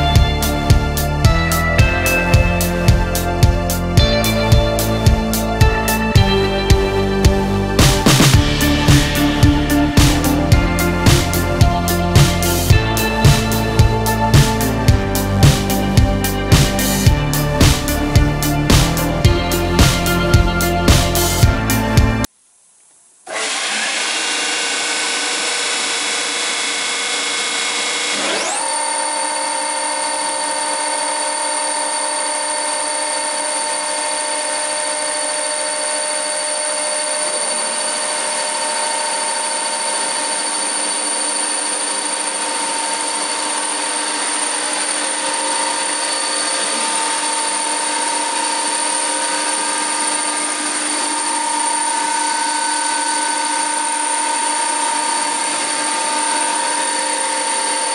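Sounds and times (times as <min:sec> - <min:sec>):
planer high-pitched whine: 0:00.0 - 0:22.3, 0:23.3 - 0:57.9.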